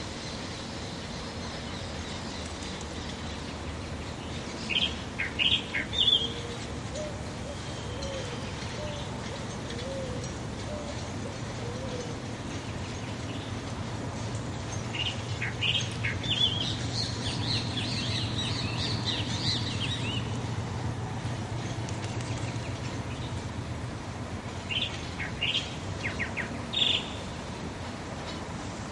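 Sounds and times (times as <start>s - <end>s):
small birds chirping: 0.1s - 23.6s, 24.5s - 27.4s.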